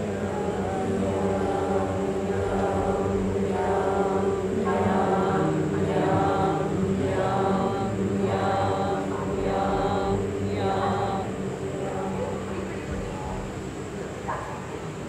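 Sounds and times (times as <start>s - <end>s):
group of voices chanting drone: 0.0s - 15.0s.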